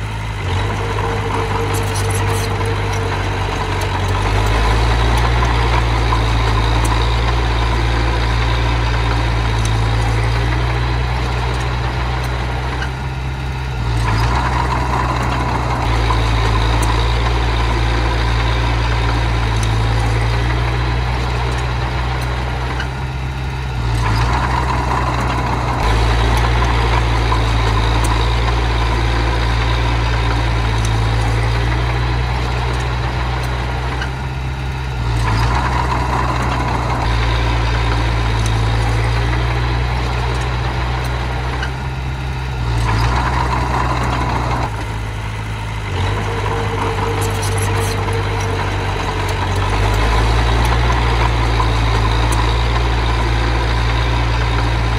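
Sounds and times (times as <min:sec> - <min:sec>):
diesel engine of heavy machinery: 0:00.0 - 0:54.9.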